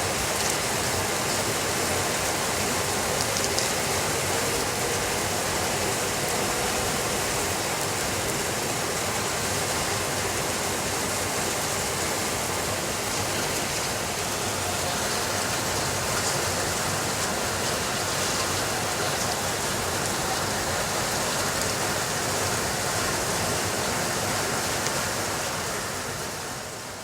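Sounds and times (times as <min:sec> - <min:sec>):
steady rainfall: 0:00.0 - 0:27.0.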